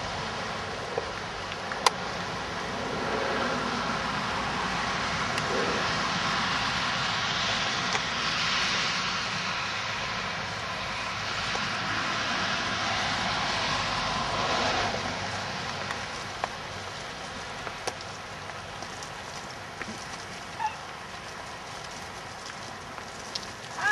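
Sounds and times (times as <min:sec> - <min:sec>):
outdoor rushing noise: 0:00.0 - 0:23.9.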